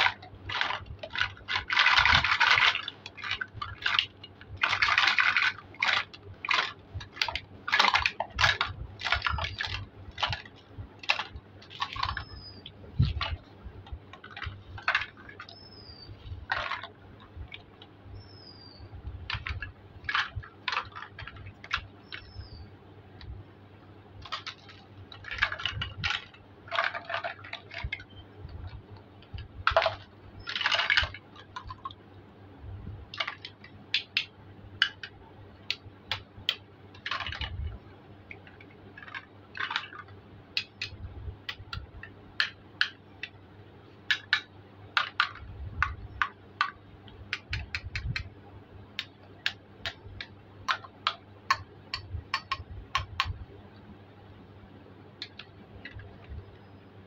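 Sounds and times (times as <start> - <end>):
plastic toy pieces clattering: 0.0 - 17.8, 19.2 - 22.4, 24.2 - 32.0, 33.1 - 43.4, 44.1 - 48.3, 49.0 - 53.3
plastic toys clicking and tapping: 0.0 - 23.4, 24.2 - 32.1, 33.1 - 53.4, 55.2 - 56.5.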